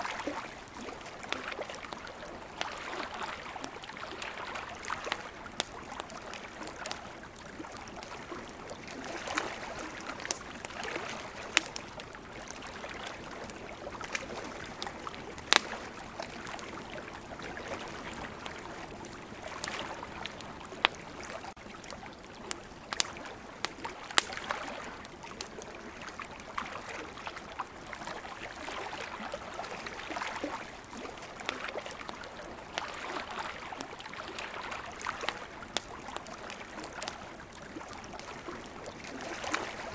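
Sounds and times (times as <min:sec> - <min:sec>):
campfire crackling and popping: 0:00.0 - 0:39.9
ocean waves: 0:00.0 - 0:39.9.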